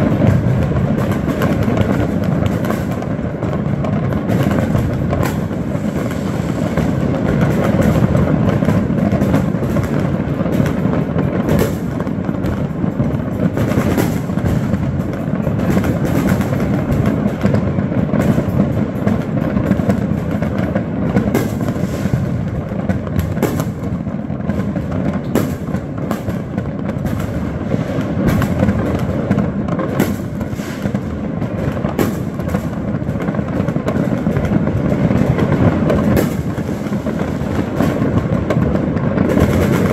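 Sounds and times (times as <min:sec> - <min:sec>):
fireworks and firecrackers exploding: 0:00.0 - 0:39.9.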